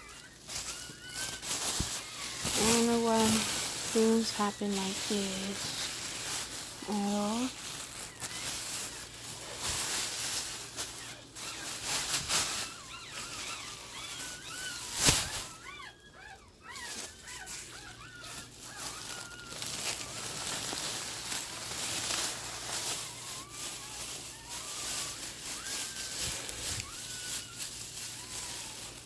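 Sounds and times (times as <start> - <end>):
newborn puppies squeaking: 0.0 - 29.0
soft rustling: 0.0 - 29.0.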